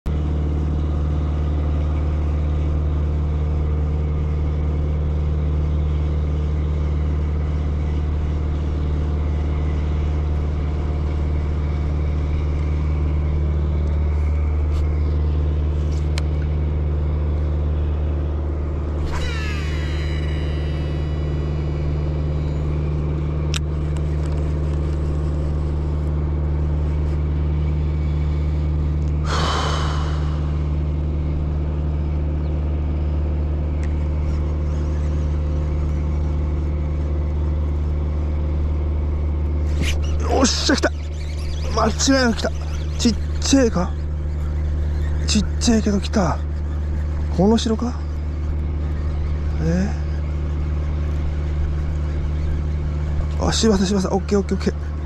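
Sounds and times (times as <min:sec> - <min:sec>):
steady low drone: 0:00.1 - 0:55.0
fishing reel spool whining: 0:00.4 - 0:55.0.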